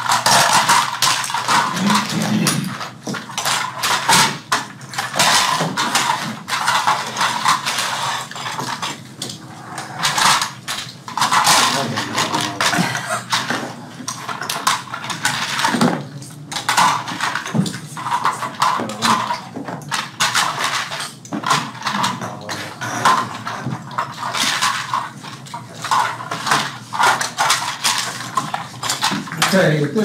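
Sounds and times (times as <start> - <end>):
toy plastic parts clattering: 0.0 - 30.0.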